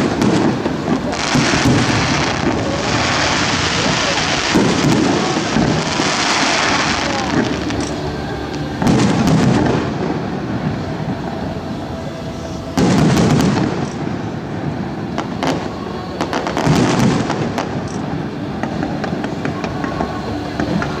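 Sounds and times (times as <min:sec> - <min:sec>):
fireworks booming: 0:00.0 - 0:21.0
fireworks crackling: 0:00.0 - 0:21.0.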